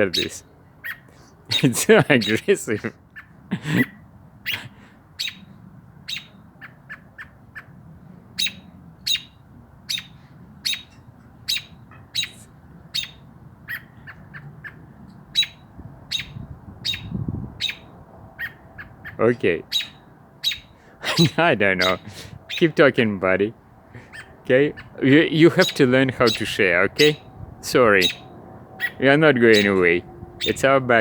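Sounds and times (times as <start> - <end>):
bird giving sharp chirps: 0.0 - 2.4, 3.2 - 7.7, 8.4 - 22.8, 23.9 - 30.8.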